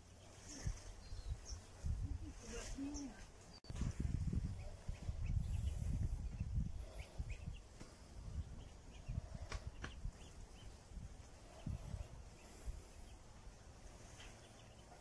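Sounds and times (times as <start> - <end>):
ducklings peeping: 0.0 - 15.0
low rumble on microphone: 0.0 - 15.0.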